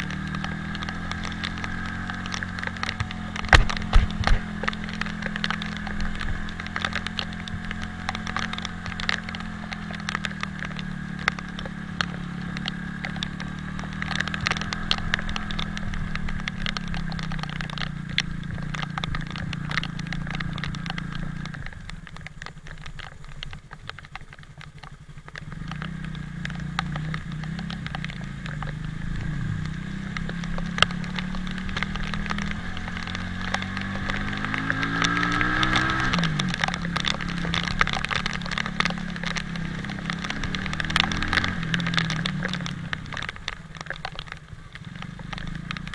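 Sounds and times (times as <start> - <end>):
motorcycle engine running: 0.0 - 45.9
raindrop ticks: 0.0 - 45.9.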